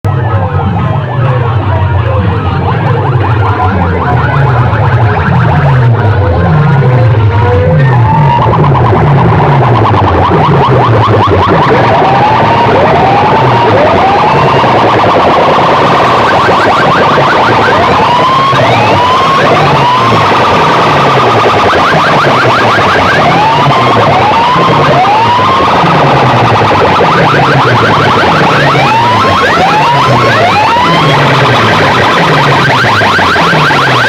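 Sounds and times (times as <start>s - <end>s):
loud electronic dj music: 0.0s - 34.0s
pulsing bass: 0.0s - 34.0s
siren-like sweeps: 0.1s - 34.0s.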